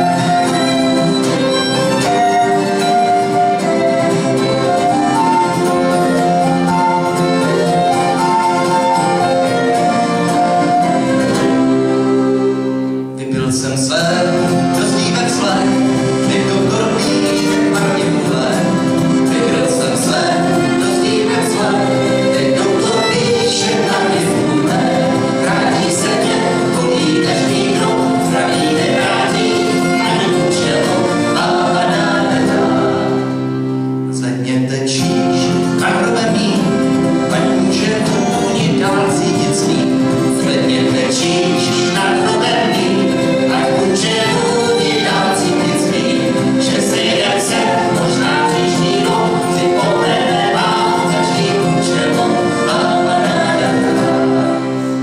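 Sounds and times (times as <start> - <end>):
fiddle: 0.0 - 13.2, 14.0 - 55.0
accordion: 0.0 - 55.0
acoustic guitar: 0.0 - 55.0
voices singing: 0.0 - 55.0.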